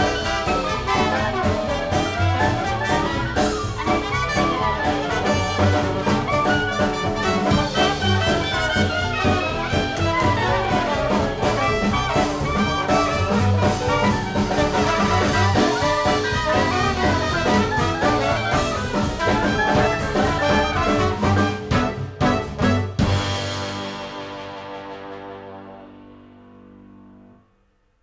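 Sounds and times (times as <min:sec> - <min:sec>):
upbeat brass jazz music: 0:00.0 - 0:27.3.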